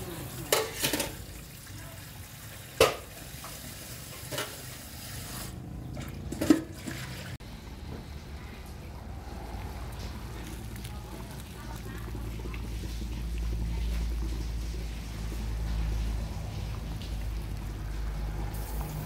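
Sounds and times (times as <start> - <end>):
water simmering: 0.0 - 19.0.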